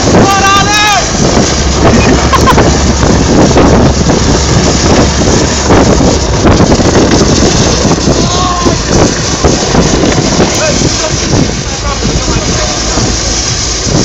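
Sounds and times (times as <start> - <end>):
low vehicle drone: 0.0 - 14.0
wind rushing over microphone: 0.0 - 14.0.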